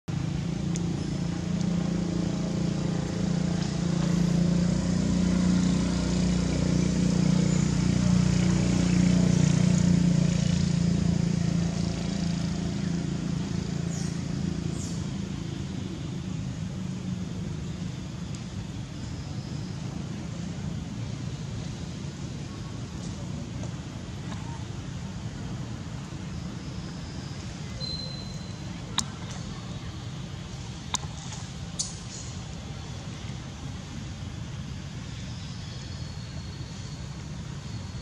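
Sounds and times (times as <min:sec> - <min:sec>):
vehicle engine humming: 0:00.0 - 0:38.0.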